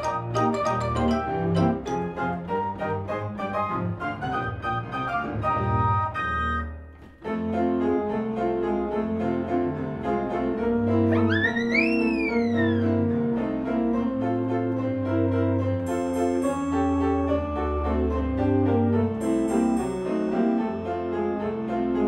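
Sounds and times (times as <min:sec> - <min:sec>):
light classical piano music: 0:00.0 - 0:22.0.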